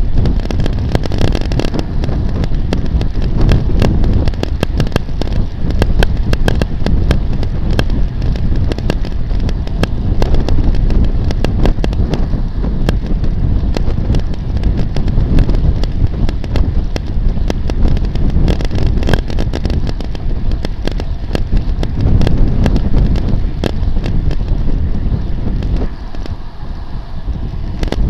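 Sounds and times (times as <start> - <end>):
sharp clicks and knocks: 0.0 - 24.8, 27.7 - 28.0
low rumble of road noise: 0.0 - 28.0
wind buffeting microphone: 0.0 - 28.0.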